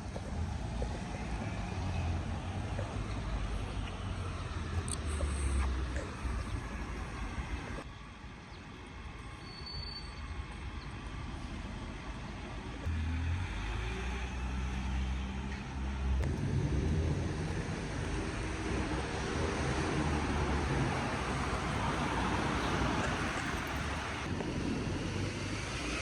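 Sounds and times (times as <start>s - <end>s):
vehicle engines humming: 0.0s - 26.0s.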